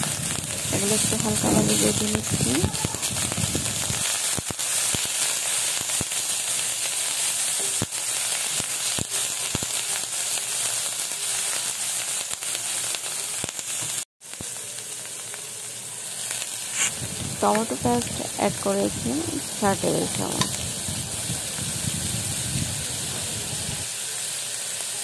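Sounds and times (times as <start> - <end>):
paste sizzling in oil: 0.0 - 25.0.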